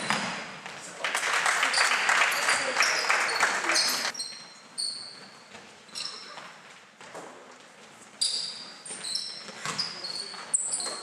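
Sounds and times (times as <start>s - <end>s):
shoes squeaking on gym floor: 1.7s - 11.0s.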